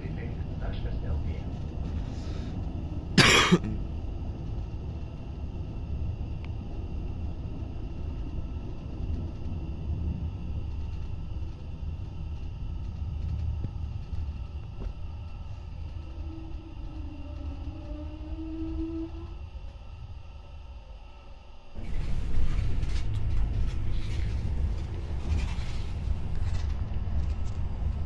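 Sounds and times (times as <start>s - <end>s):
train low rumble: 0.0s - 28.0s.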